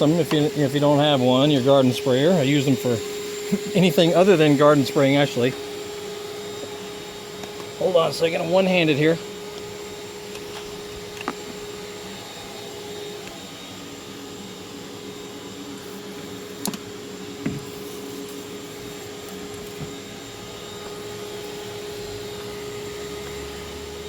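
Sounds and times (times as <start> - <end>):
shop vac motor whine: 0.0 - 24.0.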